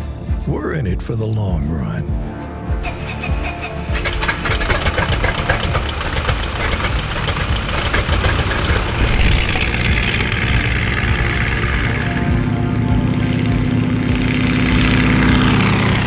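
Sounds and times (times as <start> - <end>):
piston aircraft engine running: 2.6 - 16.0.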